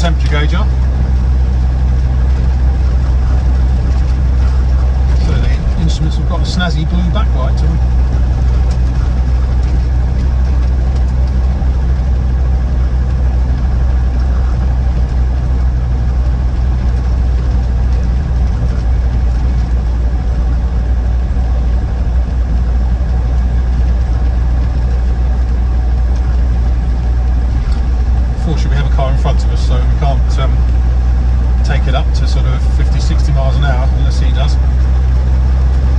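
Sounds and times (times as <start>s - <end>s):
diesel engine drone in cabin: 0.0s - 35.9s
road noise: 0.0s - 35.9s.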